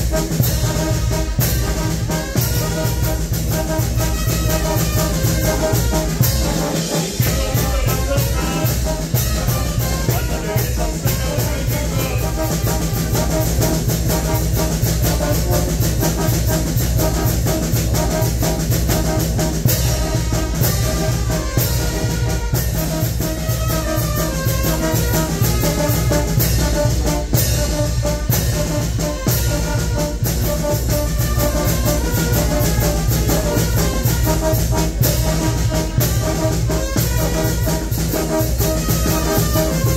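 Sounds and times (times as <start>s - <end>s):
brass band playing: 0.0s - 39.9s
drums: 0.0s - 39.9s.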